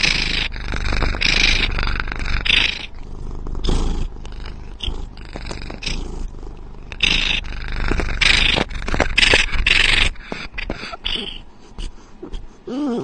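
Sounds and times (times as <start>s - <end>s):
cat teeth crunching on microphone: 0.0s - 11.2s
cat purring: 0.0s - 13.0s.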